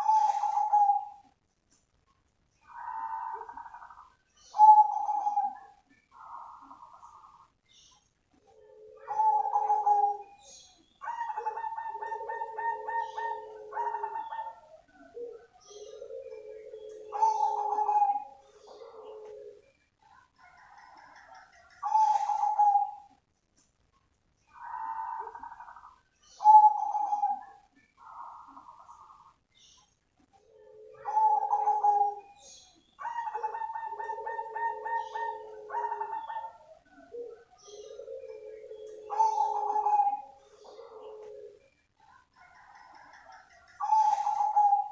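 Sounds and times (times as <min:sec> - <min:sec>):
dove cooing: 0:00.0 - 0:01.4, 0:02.6 - 0:07.5, 0:08.4 - 0:23.2, 0:24.5 - 0:29.4, 0:30.4 - 0:44.9.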